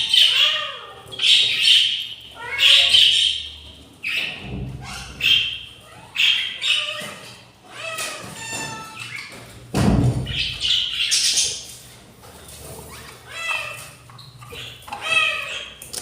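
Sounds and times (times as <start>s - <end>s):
budgerigars squawking and chirping: 0.0s - 9.4s, 10.2s - 11.8s, 12.9s - 15.8s.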